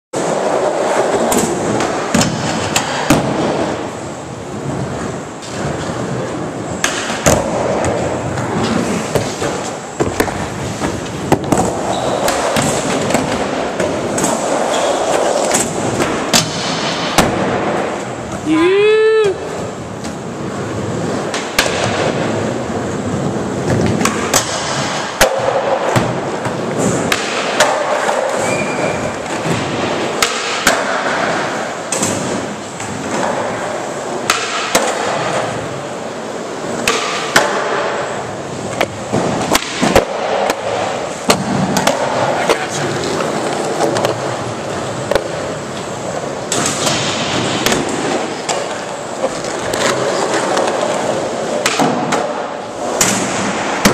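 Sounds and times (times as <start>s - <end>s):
skateboard wheels rolling on concrete: 0.1s - 53.9s
skateboard clacks: 0.2s - 18.4s, 19.2s - 53.9s.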